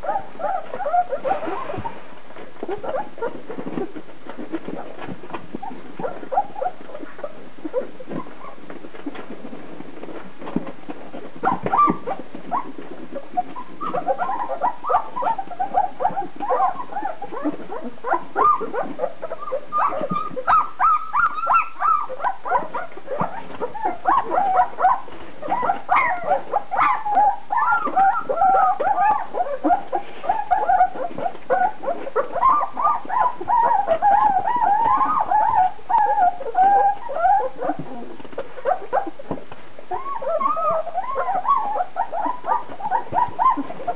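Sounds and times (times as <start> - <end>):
puppies whimpering and squeaking: 0.0 - 43.9.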